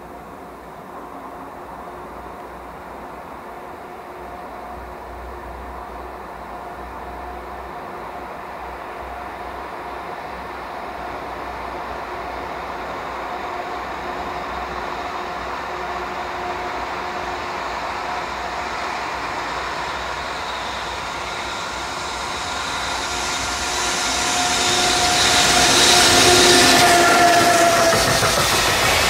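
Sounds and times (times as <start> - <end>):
electric freight train passing: 0.0 - 29.0.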